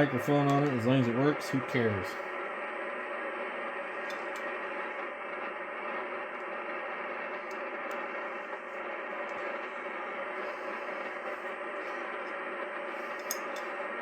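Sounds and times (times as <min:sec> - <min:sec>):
radio receiver static hiss: 0:00.0 - 0:14.0.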